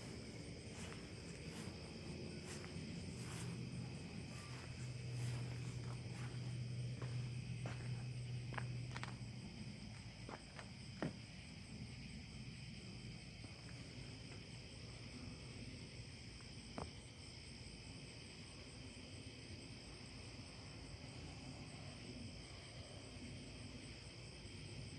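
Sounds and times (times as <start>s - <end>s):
crickets chirping: 0.0s - 24.9s.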